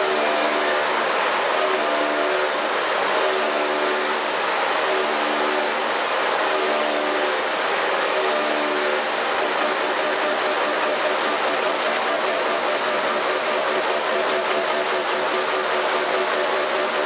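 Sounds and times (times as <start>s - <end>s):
log-rounding machine running: 0.0s - 17.0s.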